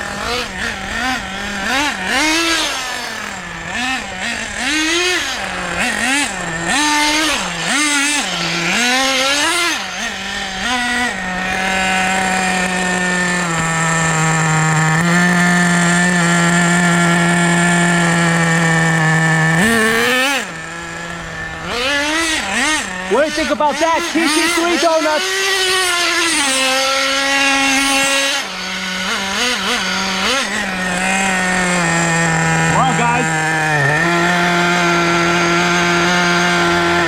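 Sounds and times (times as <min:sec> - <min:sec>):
model car engine revving: 0:00.0 - 0:37.0.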